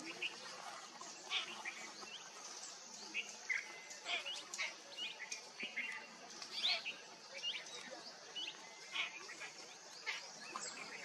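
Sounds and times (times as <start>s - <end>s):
faint steady hiss: 0.0s - 11.0s
wild birds chirping: 0.0s - 11.0s.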